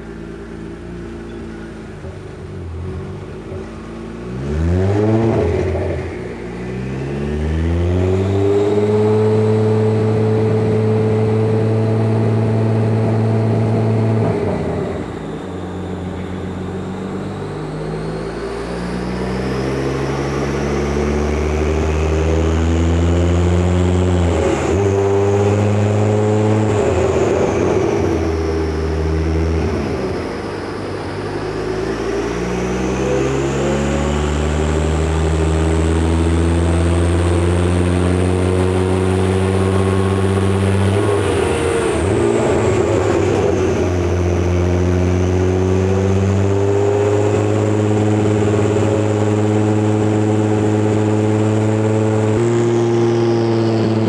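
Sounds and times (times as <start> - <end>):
car engine revving on dyno: 2.5 - 54.0.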